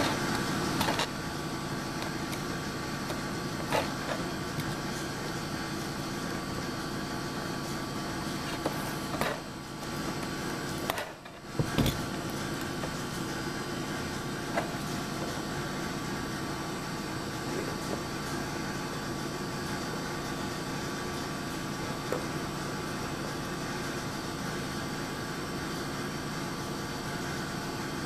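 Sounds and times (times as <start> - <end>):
machine-like hum: 0.0 - 28.0.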